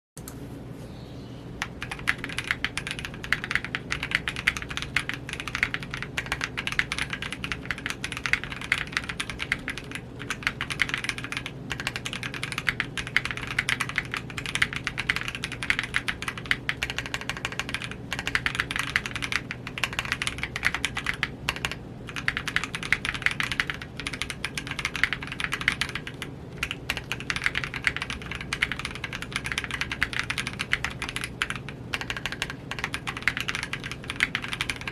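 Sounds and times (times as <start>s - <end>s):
typing on mechanical keyboard: 1.6s - 34.9s.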